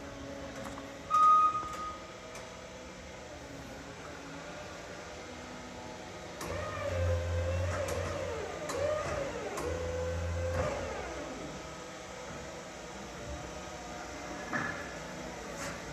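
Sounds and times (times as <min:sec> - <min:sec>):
forklift motor whine: 0:00.0 - 0:15.9.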